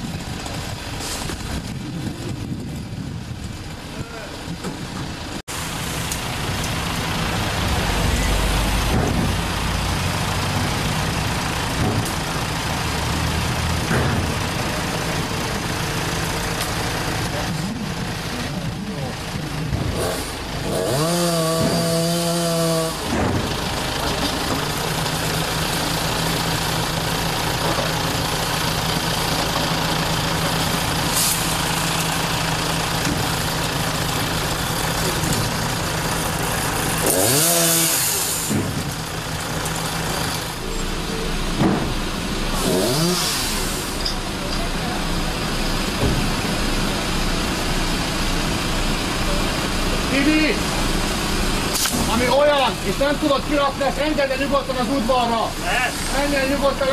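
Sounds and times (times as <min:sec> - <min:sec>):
large truck engine running: 0:00.0 - 0:56.9.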